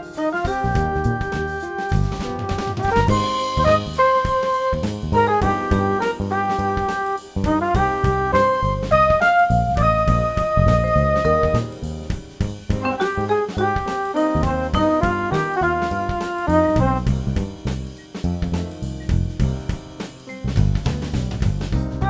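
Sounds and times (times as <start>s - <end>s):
drum kit beat: 0.0s - 22.0s
instrumental jazz music: 0.0s - 22.0s.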